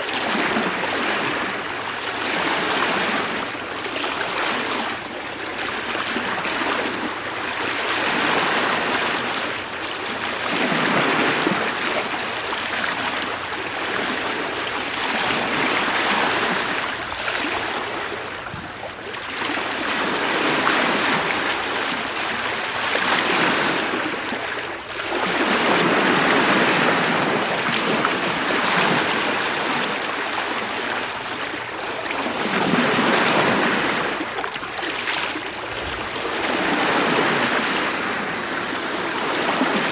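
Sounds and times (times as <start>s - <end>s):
bow wave washing: 0.0s - 39.9s.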